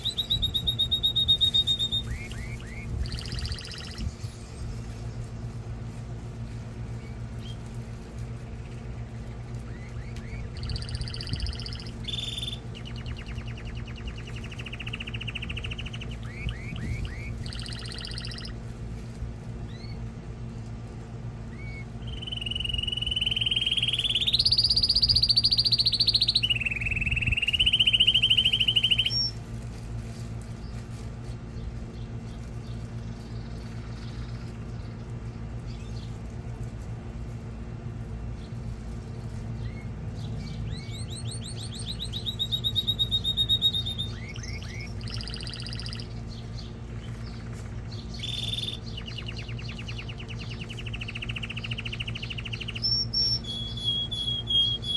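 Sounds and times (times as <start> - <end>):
canary singing trills: 0.0 - 54.9
low steady hum: 0.0 - 54.9.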